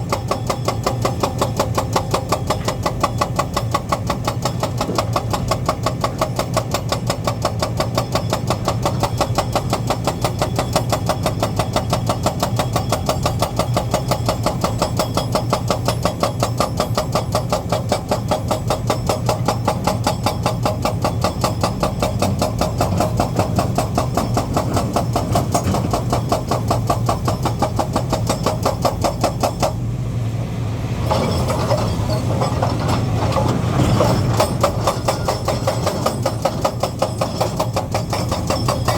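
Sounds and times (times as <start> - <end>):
heavy machinery diesel engine running: 0.0 - 38.9.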